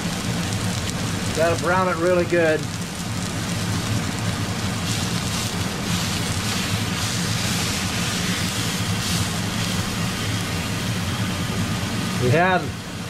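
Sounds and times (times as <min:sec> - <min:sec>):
meat sizzling in a skillet: 0:00.0 - 0:13.0
steady low hum: 0:00.0 - 0:13.0.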